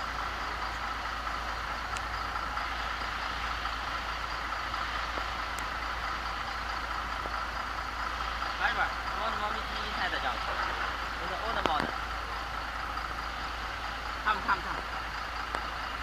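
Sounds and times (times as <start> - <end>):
machinery droning: 0.0 - 16.0.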